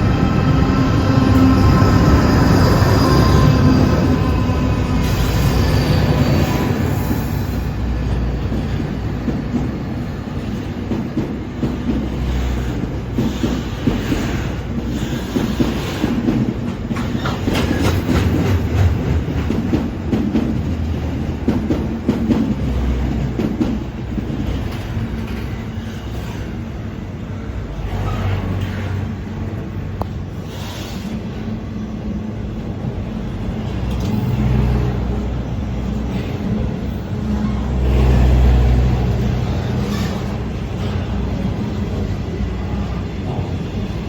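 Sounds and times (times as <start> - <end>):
train wheels clicking on rails: 0.0 - 44.0.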